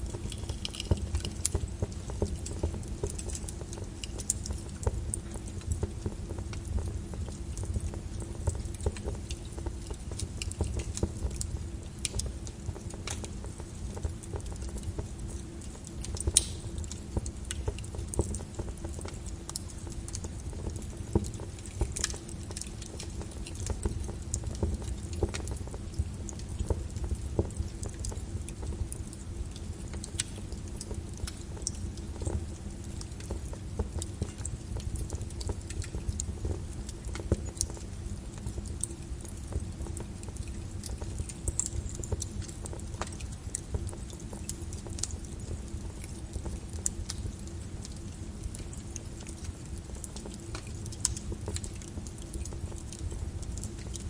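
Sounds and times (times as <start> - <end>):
lava crackling and popping: 0.0 - 54.0.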